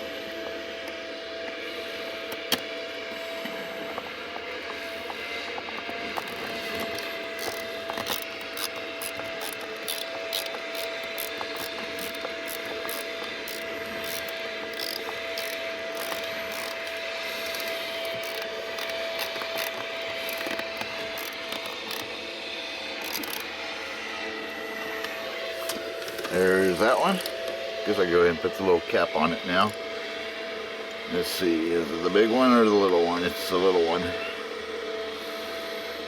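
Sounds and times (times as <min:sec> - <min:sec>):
steady hum: 0:00.0 - 0:32.2.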